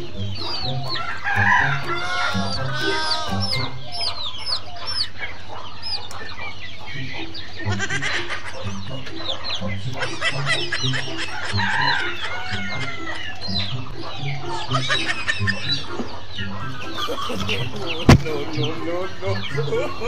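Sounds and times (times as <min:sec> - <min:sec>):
background music: 0:00.0 - 0:20.0
chickens clucking: 0:00.0 - 0:20.0
chicks peeping: 0:00.0 - 0:20.0.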